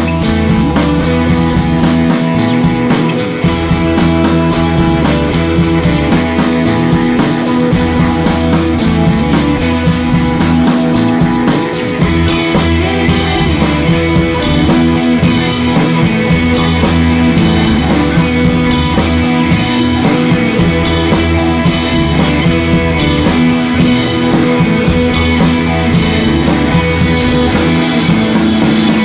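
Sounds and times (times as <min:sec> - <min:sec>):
rock music with guitar and drums: 0:00.0 - 0:29.0.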